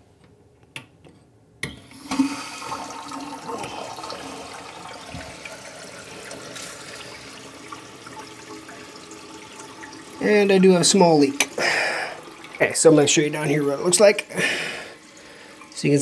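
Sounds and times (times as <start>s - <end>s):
water rushing through pipe: 2.0s - 16.0s.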